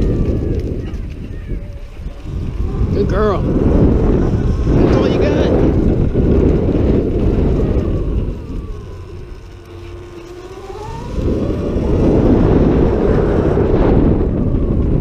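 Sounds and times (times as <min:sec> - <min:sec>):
electric motor whine: 0:00.0 - 0:15.0
wind buffeting microphone: 0:00.0 - 0:15.0.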